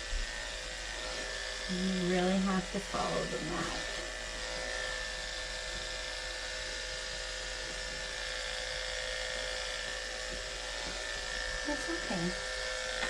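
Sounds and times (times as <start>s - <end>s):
electric clippers buzzing: 0.0s - 13.0s.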